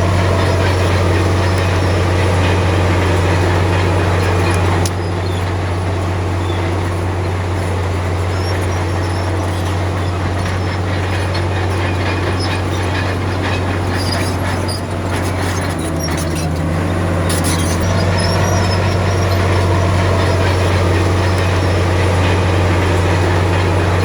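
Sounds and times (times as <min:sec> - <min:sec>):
bulldozer diesel engine running: 0:00.0 - 0:24.0
metallic track squeaks and clanks: 0:00.0 - 0:24.0.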